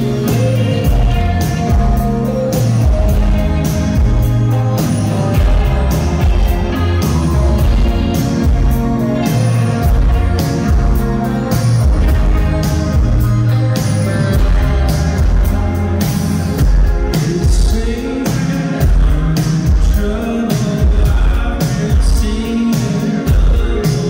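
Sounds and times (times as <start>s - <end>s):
person singing: 0.0s - 24.0s
rock band playing live: 0.0s - 24.0s.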